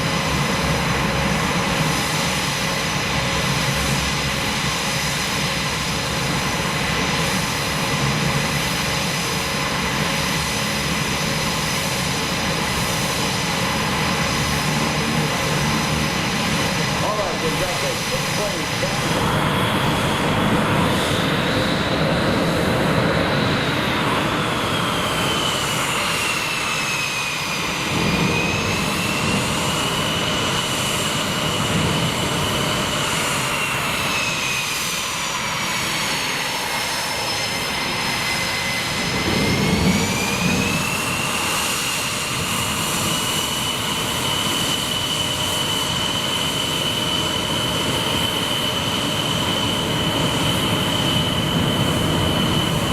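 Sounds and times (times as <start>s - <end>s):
jet engine roaring with whine: 0.0s - 52.9s.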